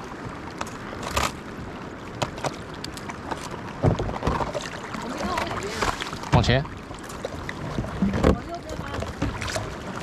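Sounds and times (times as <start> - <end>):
water washing around kayak: 0.0 - 10.0.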